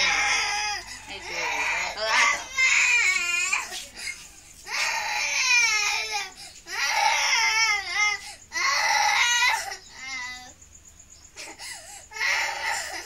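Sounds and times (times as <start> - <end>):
baby crying: 0.0 - 4.1, 4.7 - 10.5, 12.1 - 13.0.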